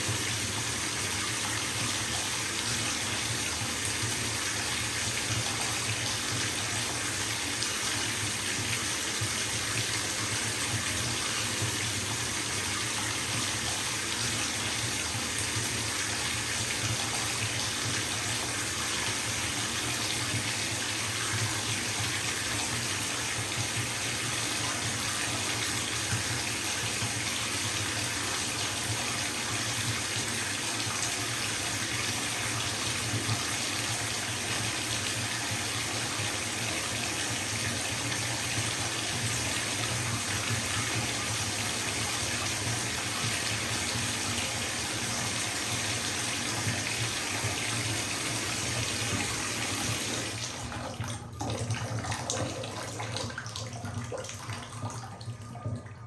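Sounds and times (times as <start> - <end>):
water pouring into bathtub: 0.0 - 56.0.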